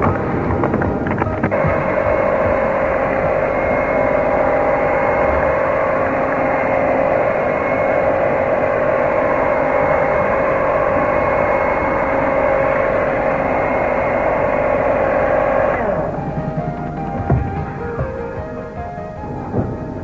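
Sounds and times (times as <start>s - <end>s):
electric mixer humming: 0.0s - 20.0s.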